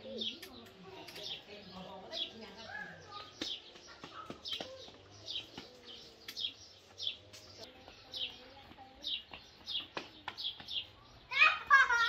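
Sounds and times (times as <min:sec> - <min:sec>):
small bird chirping: 0:00.0 - 0:11.4.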